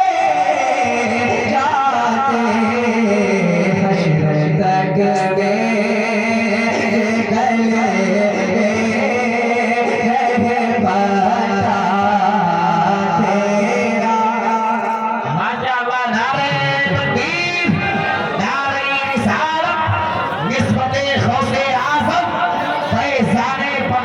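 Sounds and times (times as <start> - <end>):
man singing devotional song: 0.0 - 24.0.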